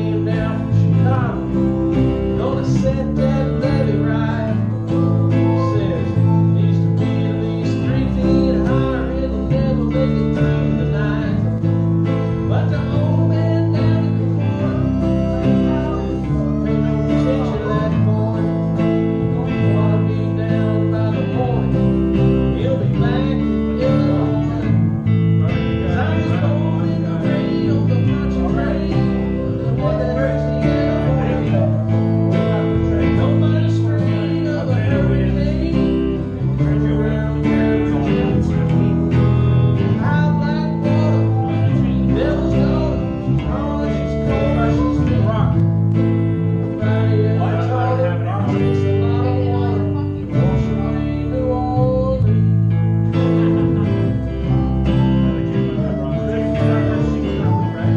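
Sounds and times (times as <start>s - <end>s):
guitars strummed and picked: 0.0s - 57.9s
person singing: 0.0s - 57.9s.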